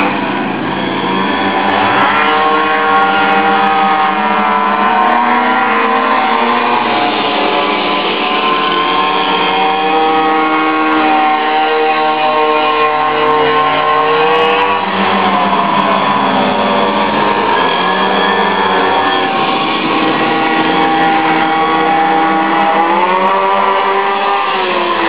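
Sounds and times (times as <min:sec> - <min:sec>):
minibike engines running hard: 0:00.0 - 0:25.0.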